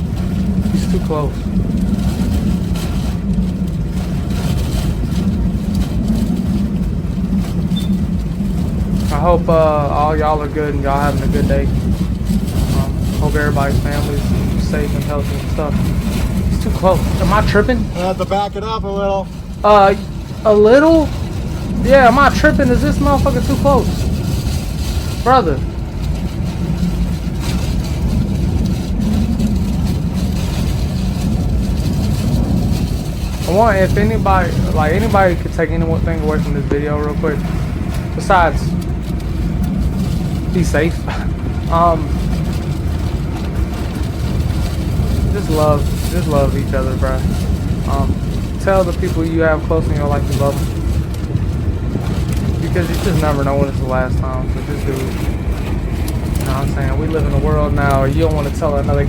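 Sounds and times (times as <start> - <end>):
vehicle engine rumbling: 0.0 - 59.0
wind buffeting microphone: 0.0 - 59.0.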